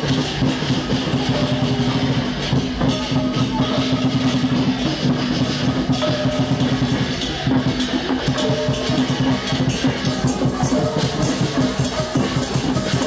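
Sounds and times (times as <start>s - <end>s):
fast steady drumming: 0.0s - 13.0s.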